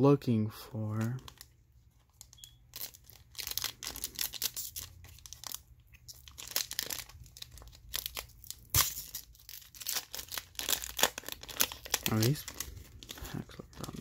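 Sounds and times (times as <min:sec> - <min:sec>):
foil wrapper crinkling and tearing: 0:00.9 - 0:01.5, 0:02.1 - 0:14.0.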